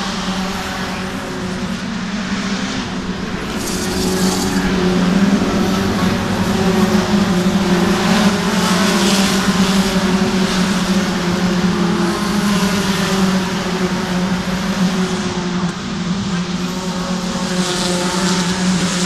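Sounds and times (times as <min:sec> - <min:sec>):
race cars passing at high revs: 0:00.0 - 0:19.0.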